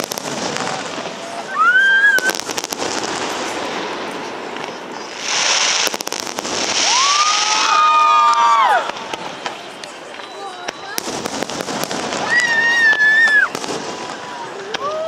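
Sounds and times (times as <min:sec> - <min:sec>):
fireworks bursting with sharp bangs: 0:00.0 - 0:15.0
fireworks crackling: 0:00.0 - 0:15.0.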